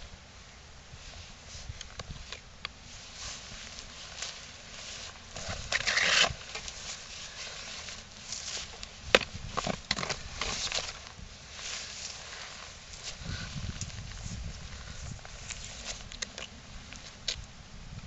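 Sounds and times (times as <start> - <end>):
jacket and gear rustling: 1.1 - 16.1.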